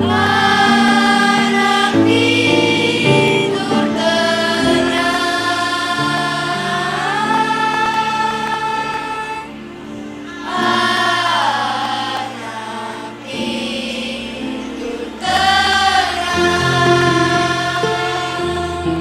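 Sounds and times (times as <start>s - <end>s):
children's choir singing: 0.0s - 19.0s
steady accompaniment: 0.0s - 19.0s.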